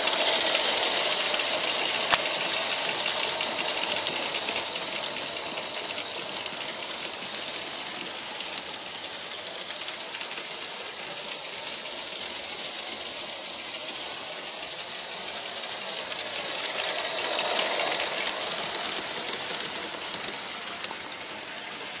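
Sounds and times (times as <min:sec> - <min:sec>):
steady steam hiss: 0:00.0 - 0:22.0
steam exhaust chuffs: 0:00.0 - 0:22.0.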